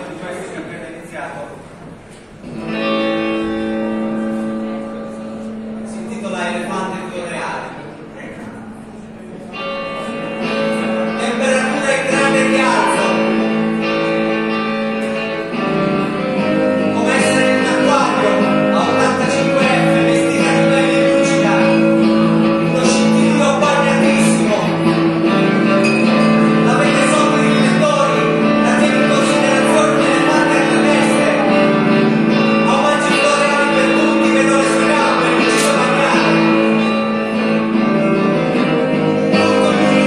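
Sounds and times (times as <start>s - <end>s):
electric guitar playing: 1.9s - 40.0s
live band music: 2.4s - 6.2s, 9.5s - 40.0s.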